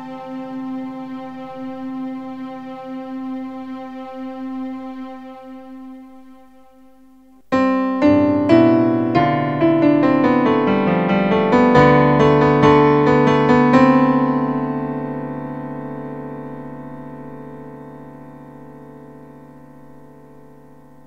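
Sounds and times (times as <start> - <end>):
solo piano music: 0.0 - 2.3, 6.1 - 21.0.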